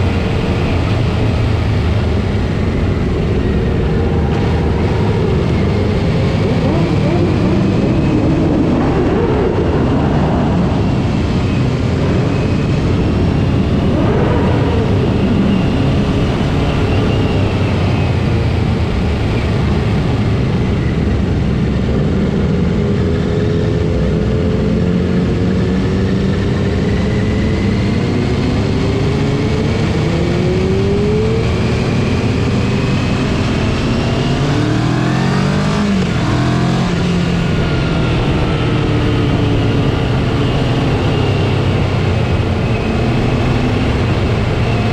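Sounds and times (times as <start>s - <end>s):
motorcycle engine revving: 0.0s - 44.9s
motorcycle engines: 0.0s - 44.9s
steady rushing noise: 0.0s - 44.9s.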